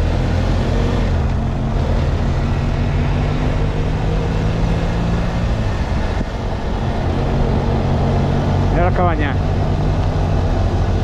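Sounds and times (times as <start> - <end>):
rushing noise: 1.1 - 11.0.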